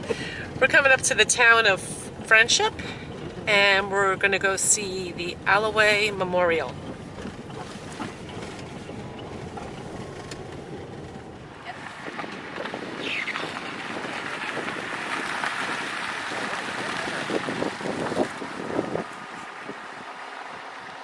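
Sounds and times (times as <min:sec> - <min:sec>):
road and tyre noise: 0:00.0 - 0:21.0.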